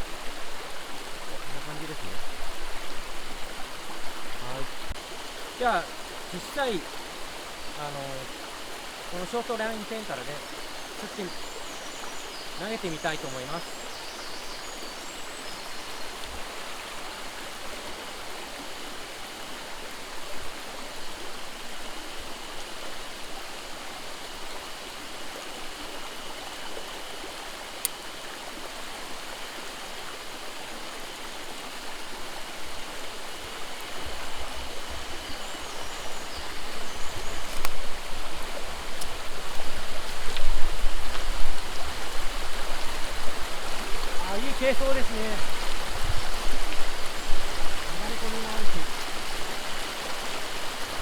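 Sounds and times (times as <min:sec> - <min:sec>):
stream water running: 0:00.0 - 0:51.0.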